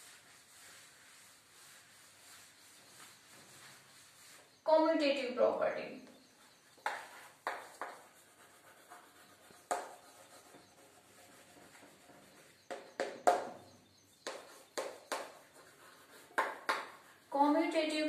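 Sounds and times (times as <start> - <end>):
chalk writing on blackboard: 0.0 - 4.6, 6.2 - 13.5, 14.1 - 17.6.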